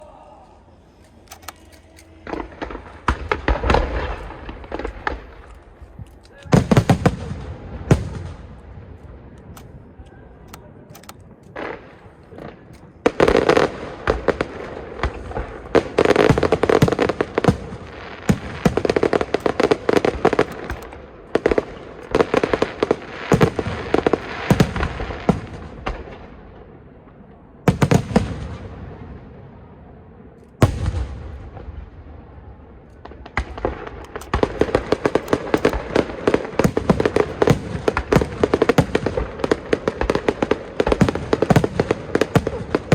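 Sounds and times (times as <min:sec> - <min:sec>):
fireworks bursting and crackling: 0:00.6 - 0:10.0, 0:11.2 - 0:29.7, 0:30.5 - 0:42.9.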